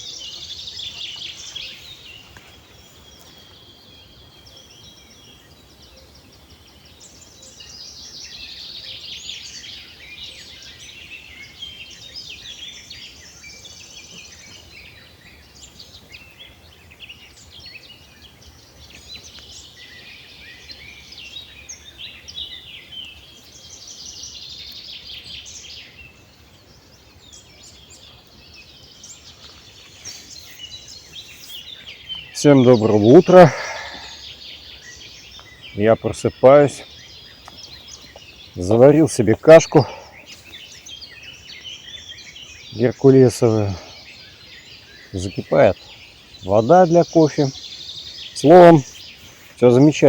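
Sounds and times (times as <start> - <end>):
songbirds singing and chirping: 0.0 - 50.0.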